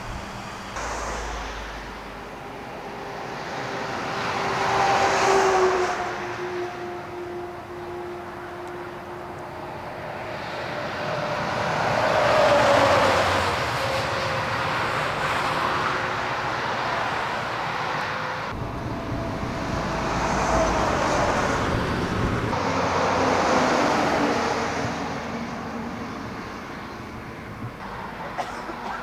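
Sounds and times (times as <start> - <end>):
trucks driving past: 0.0 - 29.0.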